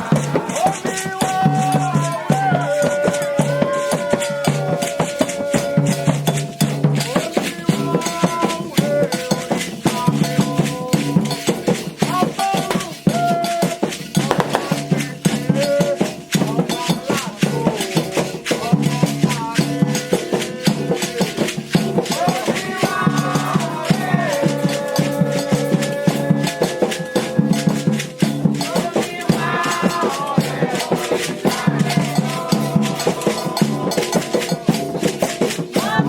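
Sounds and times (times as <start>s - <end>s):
hand drums: 0.0s - 36.0s
voices singing: 0.0s - 36.0s
shaken rattles: 6.3s - 36.0s.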